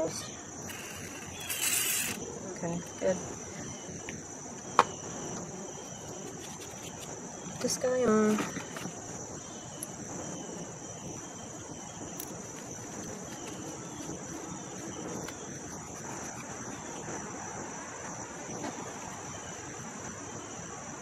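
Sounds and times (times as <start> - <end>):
insect chirring: 0.0 - 21.0
outdoor background noise: 0.0 - 21.0.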